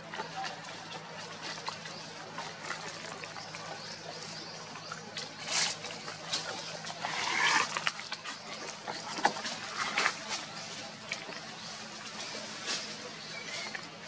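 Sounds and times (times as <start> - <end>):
rustling of dry leaves: 0.0 - 14.0.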